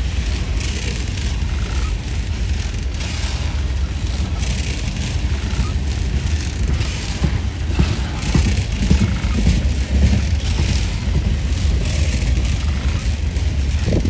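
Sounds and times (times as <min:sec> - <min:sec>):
freight train rumbling past: 0:00.0 - 0:14.0
wheel and rail hiss: 0:00.0 - 0:14.0.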